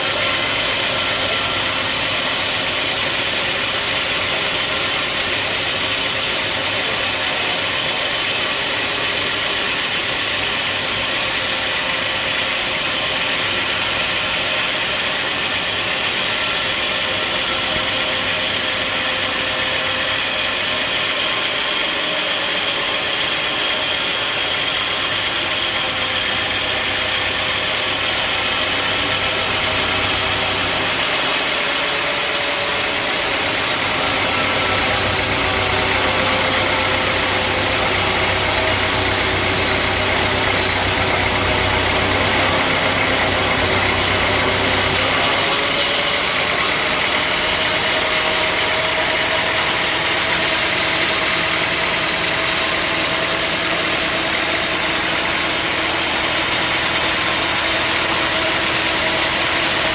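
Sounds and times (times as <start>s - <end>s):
sawmill machinery whining: 0.0s - 59.9s.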